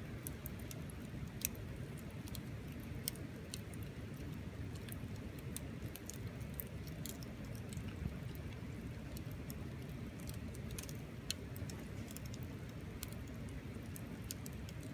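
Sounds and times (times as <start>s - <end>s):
low rumble of fire: 0.0s - 14.9s
wood bonfire crackling: 0.0s - 14.9s.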